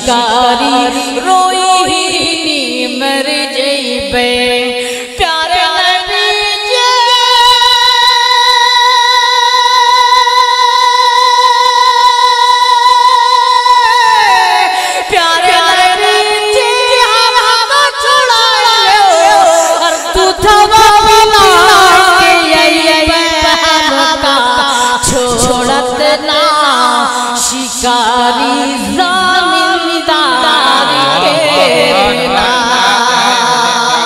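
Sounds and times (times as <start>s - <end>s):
man singing into a microphone: 0.0s - 10.2s, 10.8s - 34.0s.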